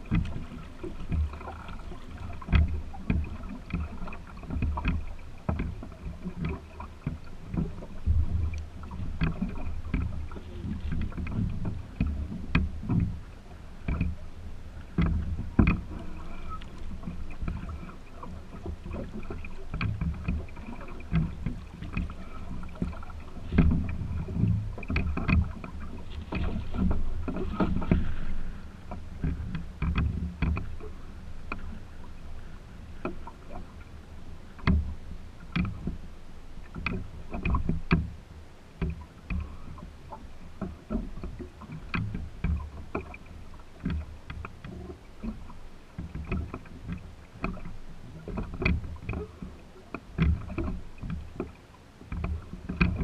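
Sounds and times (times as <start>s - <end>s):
waves knocking against wooden hull: 0.0s - 53.0s.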